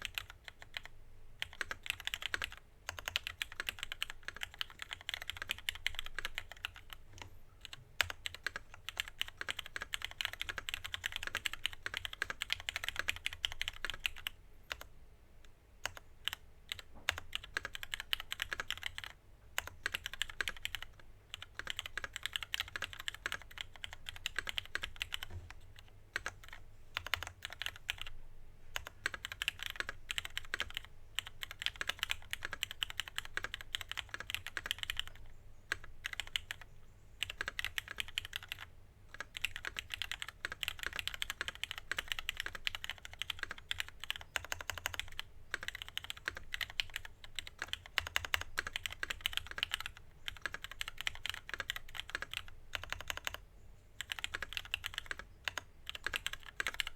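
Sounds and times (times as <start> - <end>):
mechanical keyboard typing: 0.0 - 14.9, 15.8 - 28.2, 28.8 - 53.4, 54.0 - 56.9.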